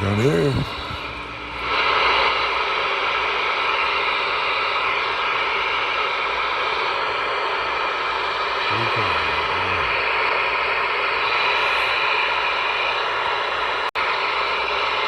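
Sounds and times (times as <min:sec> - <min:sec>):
radio receiver static hiss: 0:00.0 - 0:15.0.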